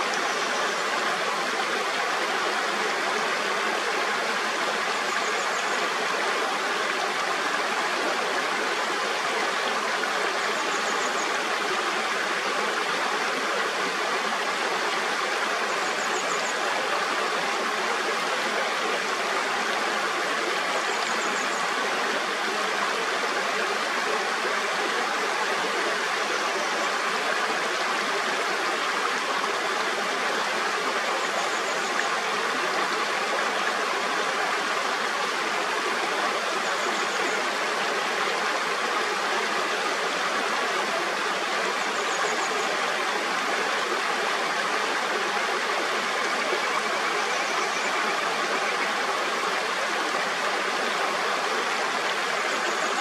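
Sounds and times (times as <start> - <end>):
mountain stream flowing: 0.0 - 53.0.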